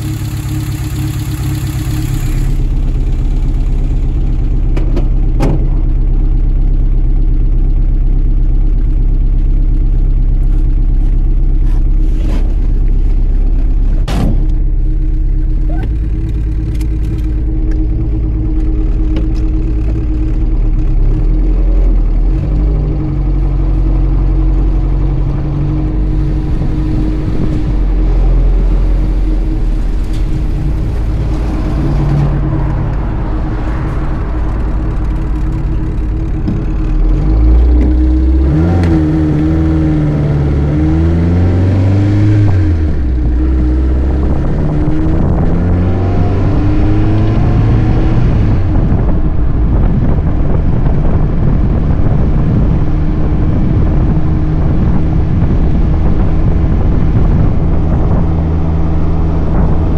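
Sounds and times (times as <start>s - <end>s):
car engine idling: 0.0s - 59.9s
car engine revving: 10.4s - 59.9s.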